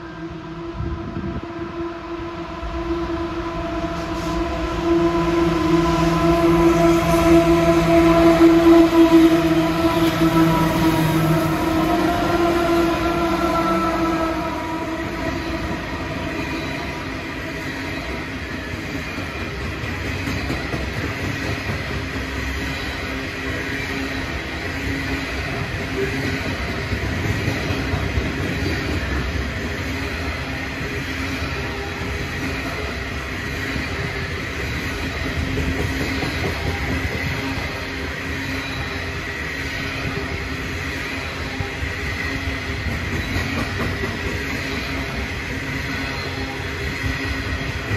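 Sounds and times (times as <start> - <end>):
locomotive engine drone: 0.0 - 47.9
faint high wheel squeal: 7.0 - 47.9.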